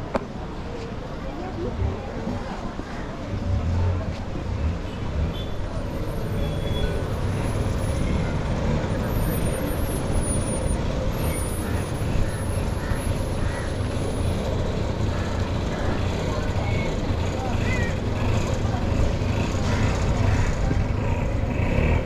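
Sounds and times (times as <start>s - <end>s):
faint voices: 0.0s - 22.0s
vehicle engine running: 3.3s - 22.0s.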